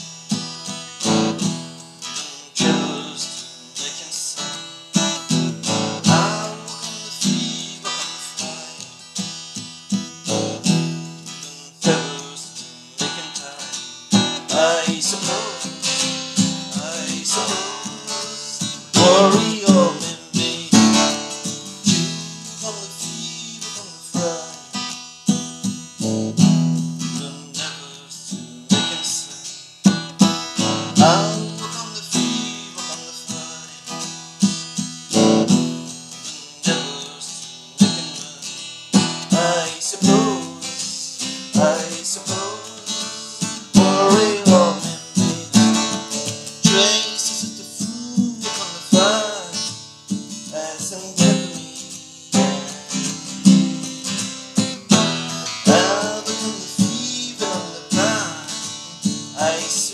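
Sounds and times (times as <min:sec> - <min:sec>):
plucked string instrument: 0:00.0 - 0:27.6, 0:28.5 - 0:51.6, 0:52.3 - 0:59.9.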